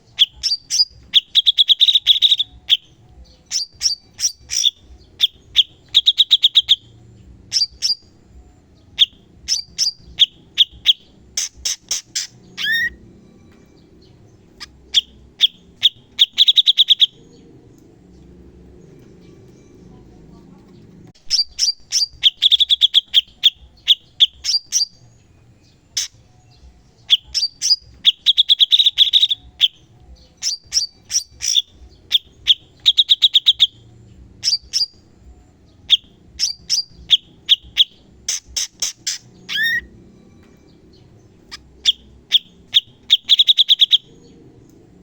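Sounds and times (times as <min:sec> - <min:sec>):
songbird singing sharp high notes: 0:00.1 - 0:08.2, 0:09.0 - 0:13.0, 0:13.9 - 0:17.3, 0:21.2 - 0:35.1, 0:35.8 - 0:40.0, 0:40.6 - 0:44.4.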